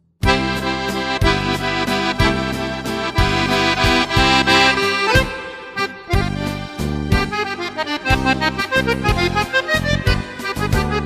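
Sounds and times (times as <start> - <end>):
instrumental music with drums: 0.2 - 11.0.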